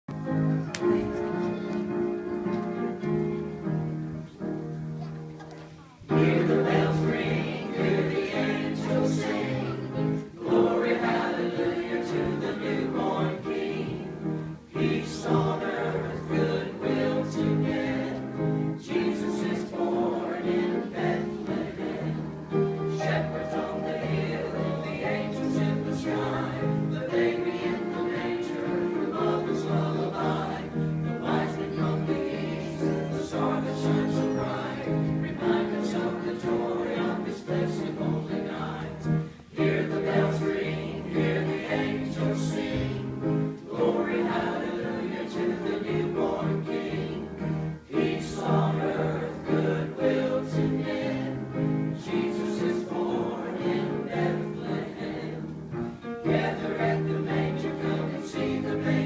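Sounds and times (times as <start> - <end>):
church choir singing: 0.2 - 4.4, 6.0 - 59.0.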